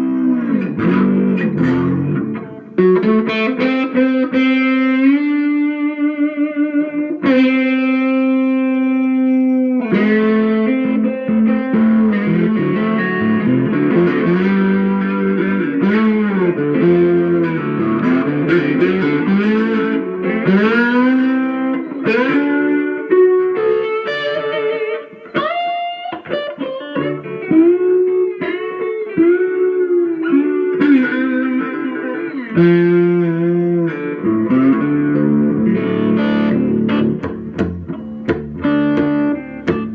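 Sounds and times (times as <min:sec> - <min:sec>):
slide electric guitar: 0:00.0 - 0:39.9.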